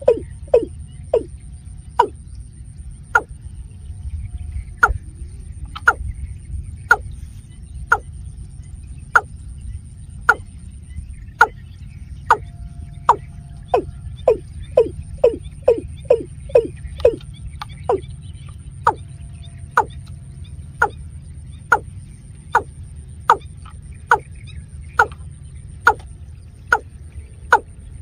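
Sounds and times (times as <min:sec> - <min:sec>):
bird calling hollow kok notes: 0:00.0 - 0:28.0
wind rumble on microphone: 0:00.0 - 0:28.0.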